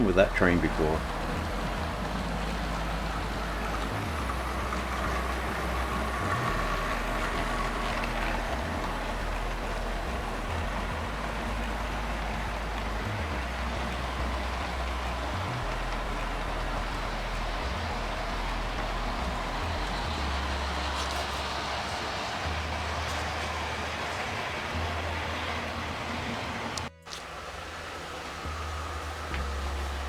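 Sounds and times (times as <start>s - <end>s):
low motor hum: 0.0s - 30.0s
model train rolling on track: 0.0s - 30.0s.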